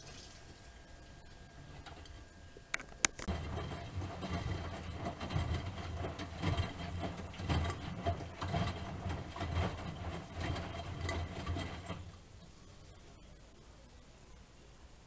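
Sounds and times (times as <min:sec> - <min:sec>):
washing machine motor hum: 0:00.0 - 0:13.8.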